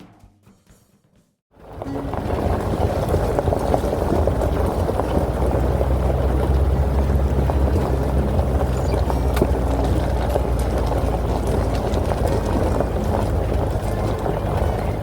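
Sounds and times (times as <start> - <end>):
vehicle engine running: 1.5 - 15.0.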